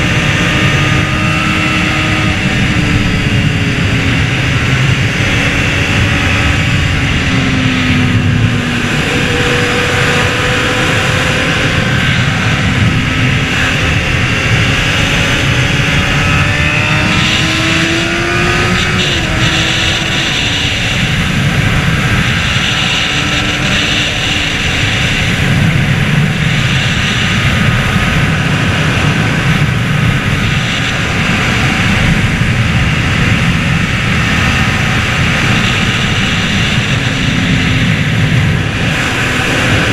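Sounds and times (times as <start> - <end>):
motorcycle engine at speed: 0.0 - 39.9
wind noise: 0.0 - 39.9.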